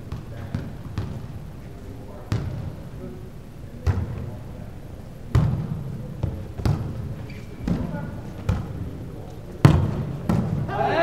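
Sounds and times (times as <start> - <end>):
volleyball thudding in gymnasium: 0.0 - 3.0, 3.7 - 4.6, 5.2 - 11.0.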